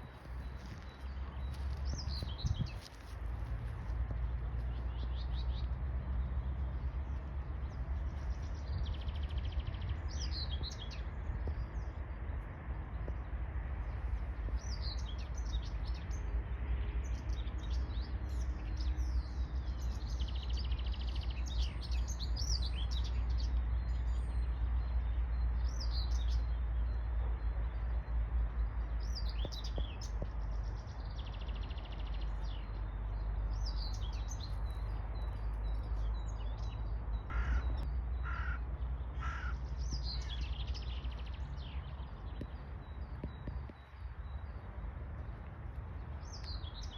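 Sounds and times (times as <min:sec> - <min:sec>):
songbirds chirping: 0:00.0 - 0:46.9
steady low rumble: 0:00.0 - 0:46.9.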